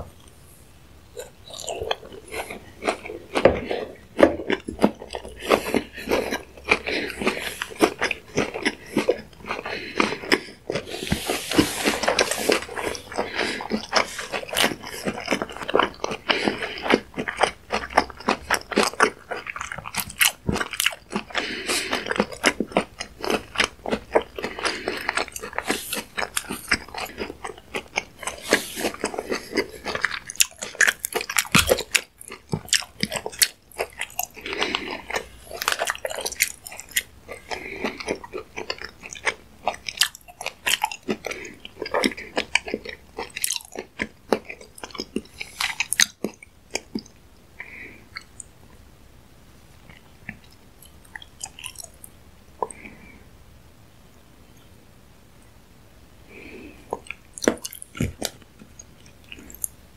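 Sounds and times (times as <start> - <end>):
mouth chewing food: 0.0 - 48.9, 49.7 - 53.2, 56.3 - 59.9.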